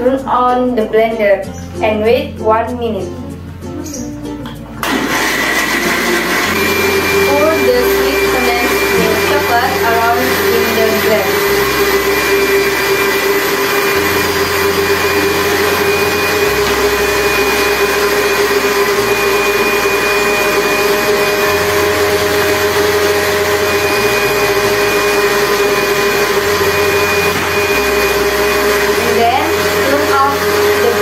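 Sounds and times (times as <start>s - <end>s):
blender running: 4.8s - 31.0s.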